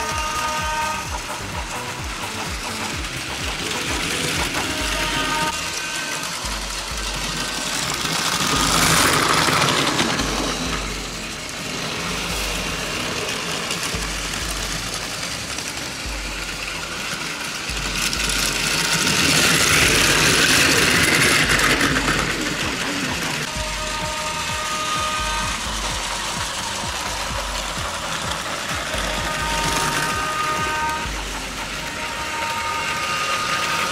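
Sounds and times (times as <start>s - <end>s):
toy train motor whir: 0.0s - 33.9s
wheels rattling on plastic track: 0.0s - 33.9s.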